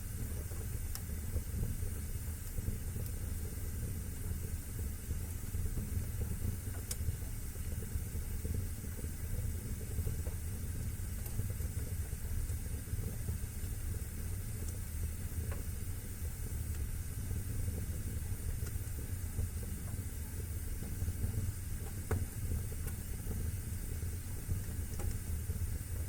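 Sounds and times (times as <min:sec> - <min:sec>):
fire crackles: 0:00.0 - 0:26.0
fire rumbling and hissing: 0:00.0 - 0:26.0.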